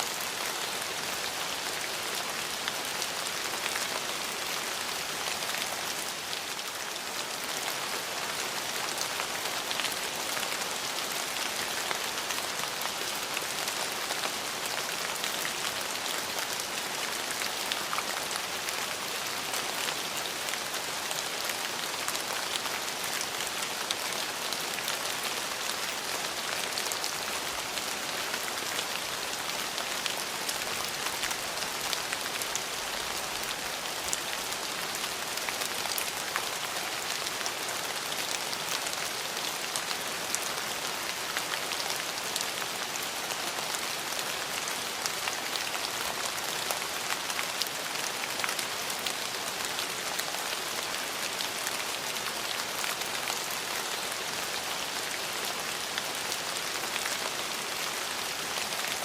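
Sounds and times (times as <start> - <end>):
rain on hard surfaces: 0.0 - 59.0.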